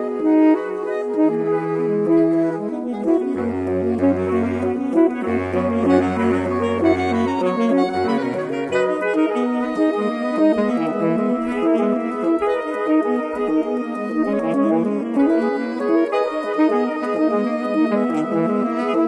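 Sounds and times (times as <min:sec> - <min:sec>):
saxophone quartet playing: 0:00.0 - 0:19.0.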